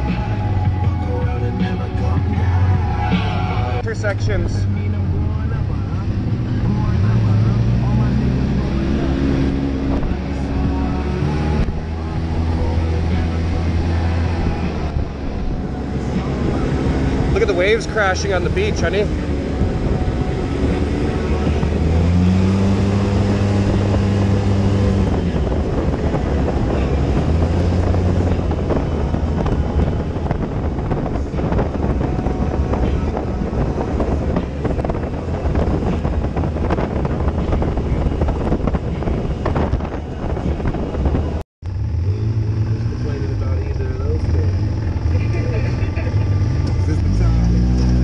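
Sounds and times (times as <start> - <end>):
wind rush on microphone: 0.0 - 41.4
vehicle engine running: 0.0 - 48.0.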